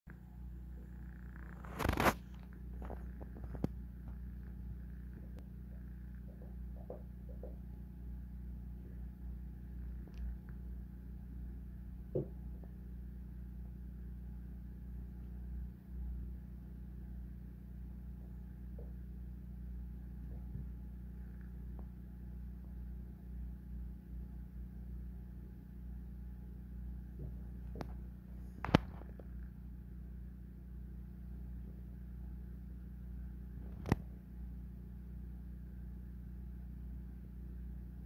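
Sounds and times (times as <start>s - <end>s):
steady low hum: 0.1s - 38.0s.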